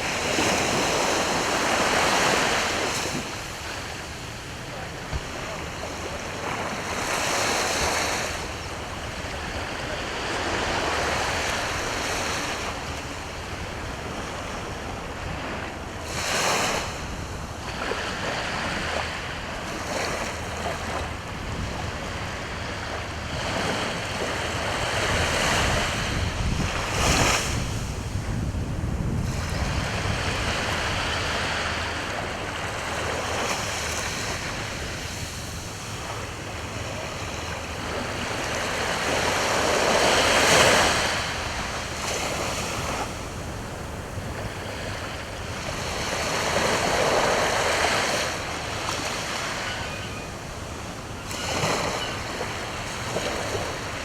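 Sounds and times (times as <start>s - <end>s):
wind rumble on microphone: 0.0s - 49.2s
sea waves breaking on shore: 0.0s - 54.0s.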